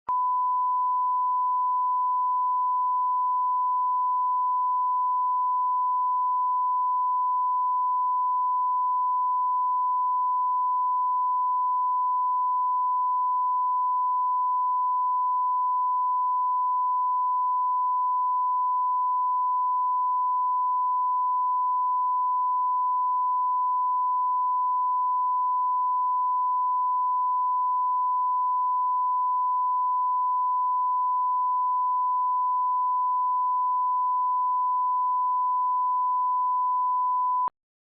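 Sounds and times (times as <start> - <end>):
continuous pure tone beep: 0.1 - 37.5.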